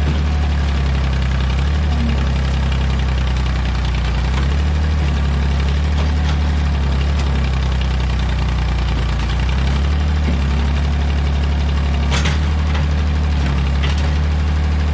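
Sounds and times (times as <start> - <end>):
backhoe engine running: 0.0 - 14.9.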